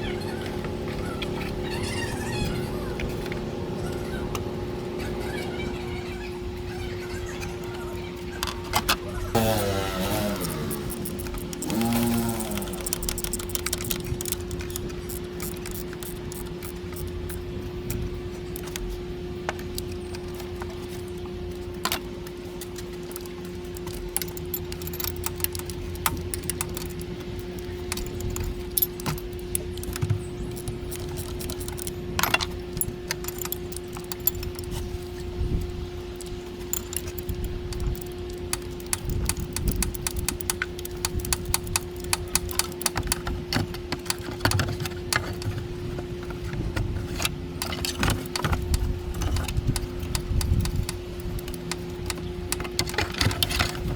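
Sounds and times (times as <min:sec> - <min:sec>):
steady hum: 0:00.0 - 0:53.9
metal tools clinking: 0:08.2 - 0:53.9.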